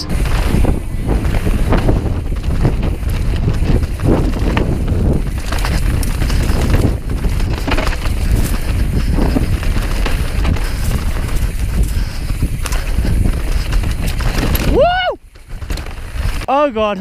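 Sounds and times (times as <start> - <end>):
bike knocking and rattling: 0.0 - 17.0
bike tyres rumbling over dirt: 0.0 - 17.0
wind buffeting microphone: 0.0 - 17.0.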